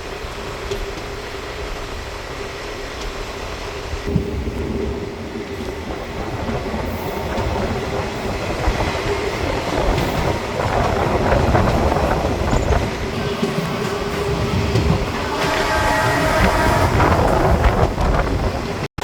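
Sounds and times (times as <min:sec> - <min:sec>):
train running: 0:00.0 - 0:18.9.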